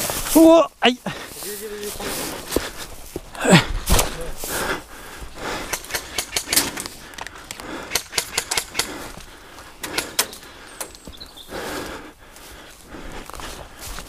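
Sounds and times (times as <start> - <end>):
footsteps through dry grass: 0.0 - 14.0.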